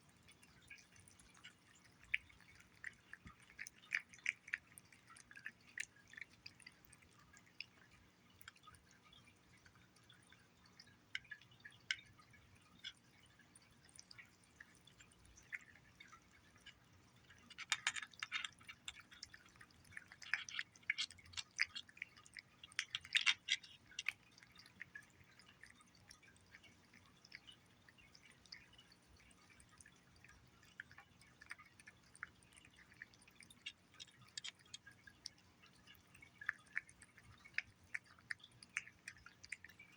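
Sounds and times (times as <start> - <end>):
cat licking and chewing food: 0.0 - 39.9.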